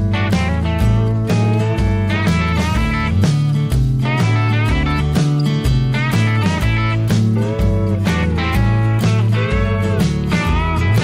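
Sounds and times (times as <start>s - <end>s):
guitar with bending notes: 0.0s - 11.0s
steady bass and beat: 0.0s - 11.0s.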